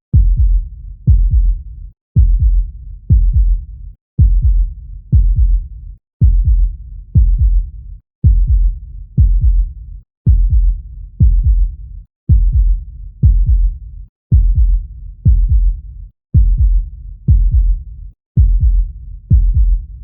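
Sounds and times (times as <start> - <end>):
heartbeat thumps: 0.1 - 1.6, 2.2 - 15.8, 16.4 - 17.8, 18.4 - 20.0.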